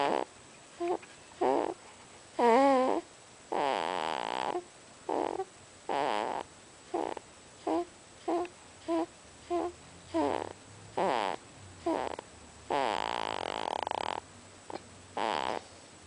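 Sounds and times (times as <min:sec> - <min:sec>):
baby snoring: 0:00.0 - 0:01.8, 0:02.4 - 0:15.8.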